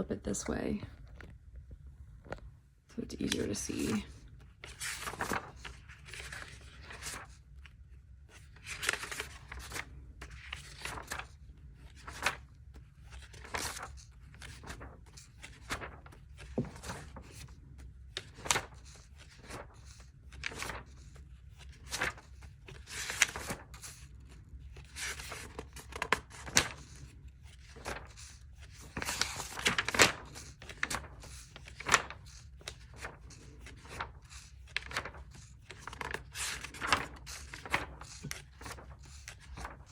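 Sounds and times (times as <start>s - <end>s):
notebook pages turning: 3.2s - 39.9s.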